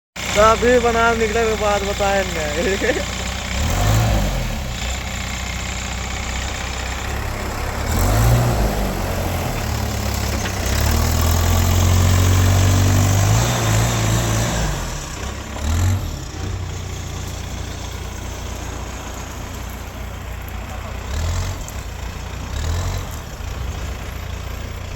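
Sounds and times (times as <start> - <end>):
diesel engine working hard: 0.2 - 24.9.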